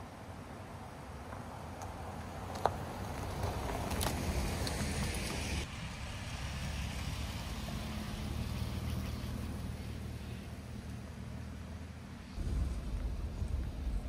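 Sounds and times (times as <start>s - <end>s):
tyre noise on road: 0.0s - 14.0s
vehicle engine hum: 0.0s - 14.0s.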